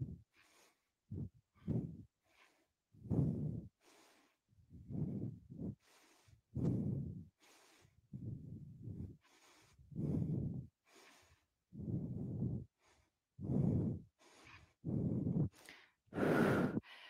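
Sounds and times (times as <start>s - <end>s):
woman breathing heavily: 0.0s - 17.0s.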